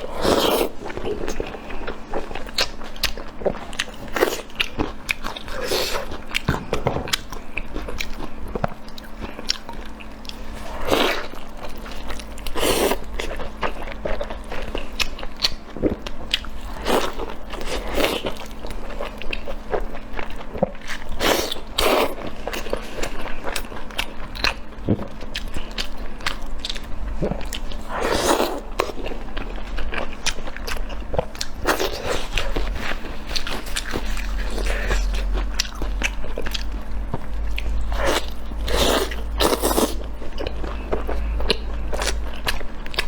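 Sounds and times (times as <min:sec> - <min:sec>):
person chewing and crunching food: 0:00.0 - 0:43.0.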